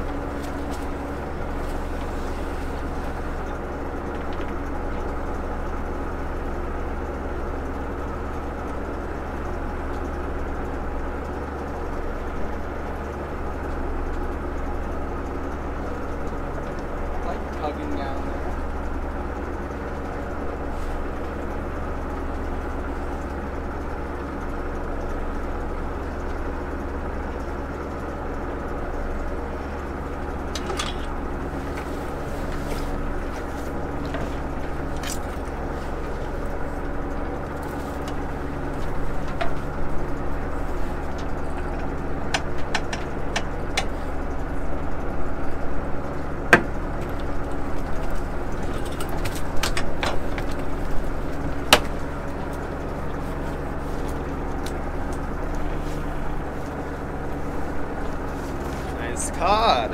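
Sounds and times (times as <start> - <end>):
boat engine running: 0.0 - 59.9
gear clicking and clanking: 0.0 - 59.9.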